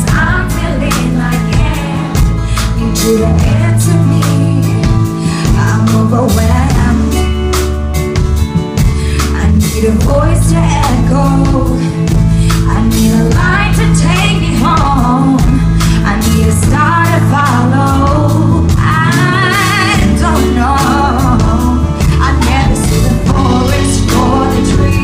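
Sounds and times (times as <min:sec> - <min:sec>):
woman singing with vibrato: 0:00.0 - 0:07.6, 0:09.1 - 0:25.0
band playing pop ballad: 0:00.0 - 0:25.0.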